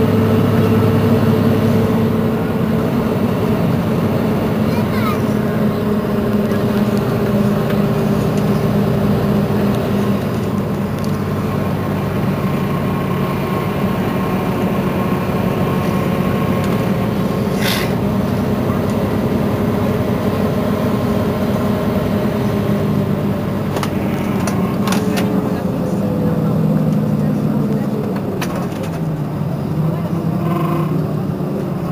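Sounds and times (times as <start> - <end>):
bus engine idling: 0.0 - 31.9.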